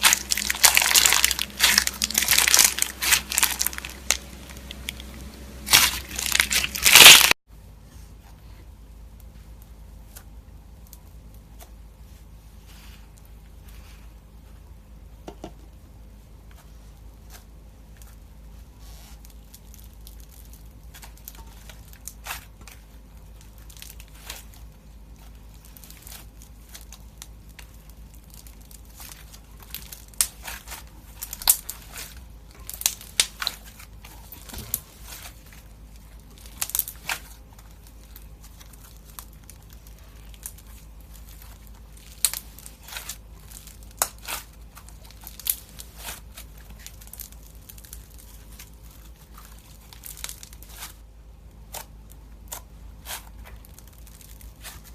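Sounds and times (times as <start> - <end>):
slime crackling and crunching: 0.0 - 7.4, 16.6 - 54.9.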